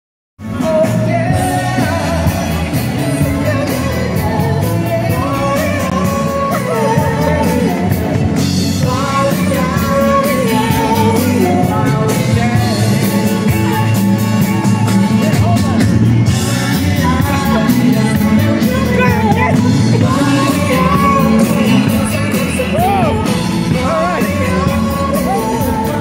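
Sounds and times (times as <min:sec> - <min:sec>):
lead singer: 0:00.4 - 0:26.0
live rock band: 0:00.4 - 0:26.0.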